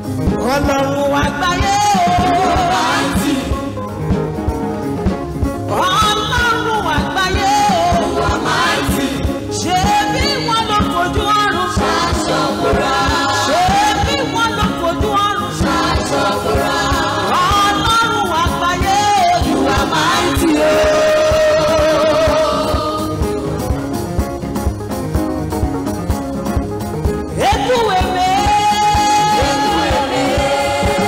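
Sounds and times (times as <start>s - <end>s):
gospel voices singing: 0.6s - 23.8s, 27.4s - 31.0s
instruments with steady beat: 2.0s - 10.0s, 11.7s - 27.4s, 29.0s - 31.0s.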